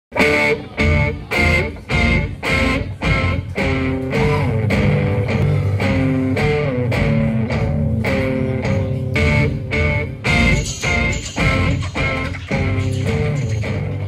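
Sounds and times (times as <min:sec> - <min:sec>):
bending guitar notes: 0:00.1 - 0:14.0
guitar chords strummed: 0:00.1 - 0:14.0
steady low bass line: 0:00.4 - 0:14.0.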